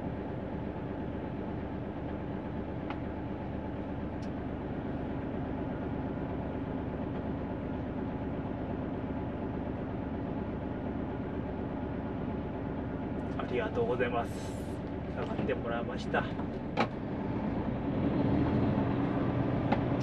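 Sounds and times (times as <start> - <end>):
diesel truck engine running: 0.0 - 20.0.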